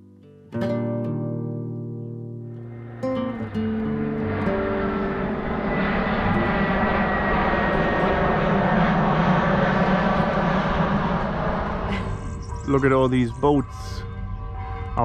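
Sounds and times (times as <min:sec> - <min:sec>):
airplane engine rumble: 0:02.4 - 0:15.0
thin falling whine: 0:02.4 - 0:15.0.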